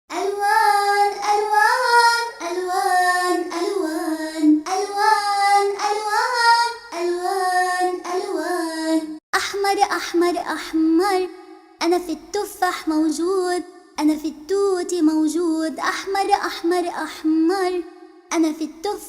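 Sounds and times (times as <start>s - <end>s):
child singing: 0.1s - 19.0s.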